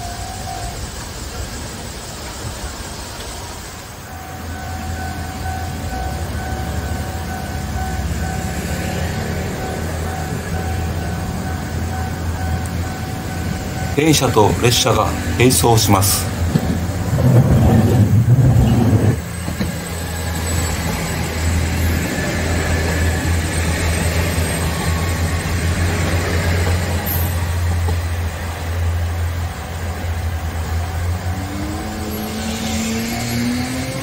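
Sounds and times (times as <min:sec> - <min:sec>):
diesel railcar engine droning: 0:00.0 - 0:34.0.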